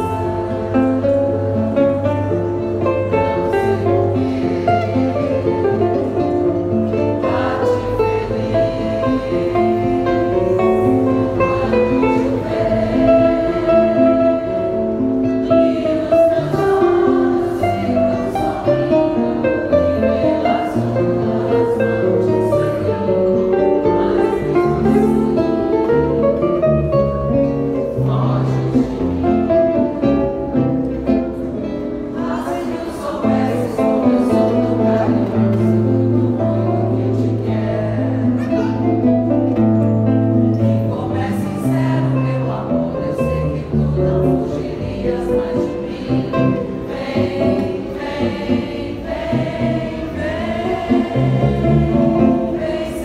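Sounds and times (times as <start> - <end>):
plucked acoustic guitars: 0.0 - 53.0.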